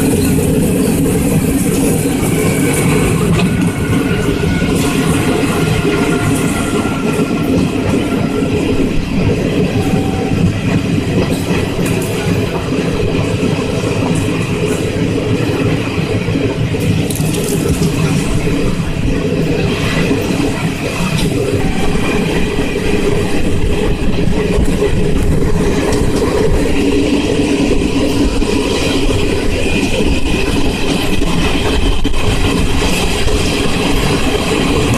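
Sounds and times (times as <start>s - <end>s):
train rumbling on rails: 0.0s - 34.9s
train wheel clatter: 0.0s - 34.9s.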